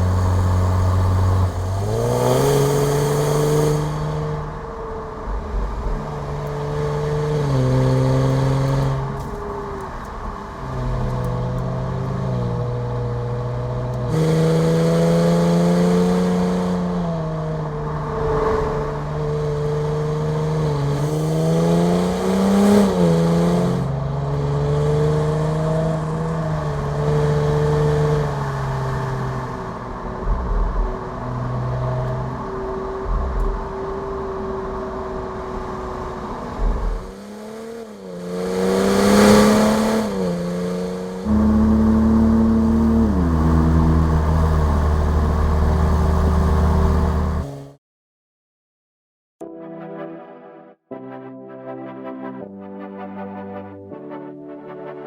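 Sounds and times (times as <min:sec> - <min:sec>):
car engine revving: 0:00.0 - 0:47.8.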